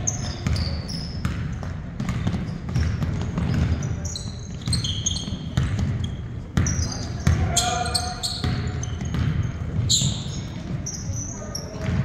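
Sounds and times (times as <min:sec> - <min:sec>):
sneaker squeaks: 0:00.0 - 0:12.0
basketball bouncing on hardwood floor: 0:00.2 - 0:07.6, 0:08.4 - 0:10.9, 0:11.8 - 0:12.0.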